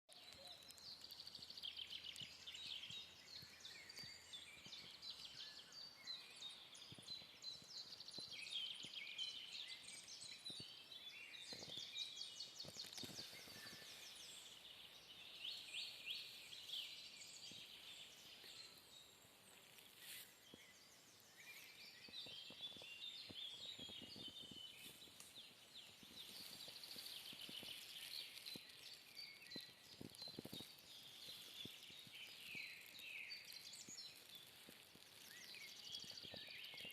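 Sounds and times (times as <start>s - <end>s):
faint songbirds singing: 0.1s - 36.9s.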